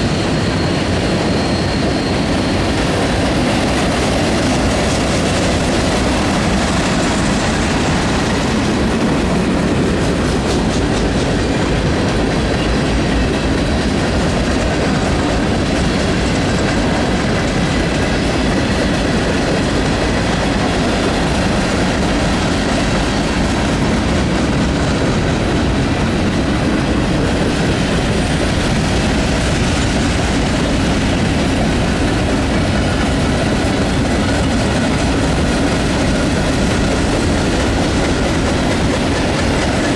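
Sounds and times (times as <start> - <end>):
clickety-clack of rails: 0.0 - 39.9
train wheels rumbling on rails: 0.0 - 39.9.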